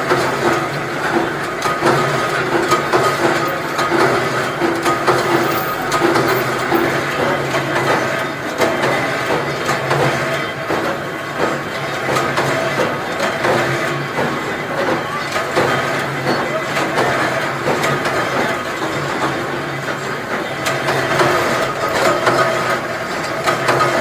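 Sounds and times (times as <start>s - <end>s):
machinery clattering clicks: 0.0s - 24.0s
pulsing machine hum: 0.0s - 24.0s.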